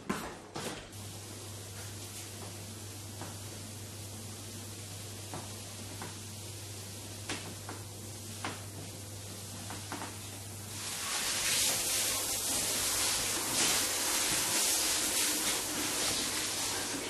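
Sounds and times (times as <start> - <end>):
water running into a tub: 1.0 - 17.0.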